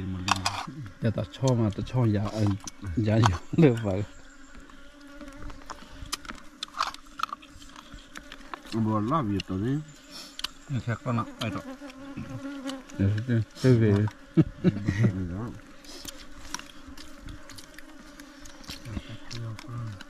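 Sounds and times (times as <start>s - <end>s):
insect buzzing: 0.0s - 20.0s.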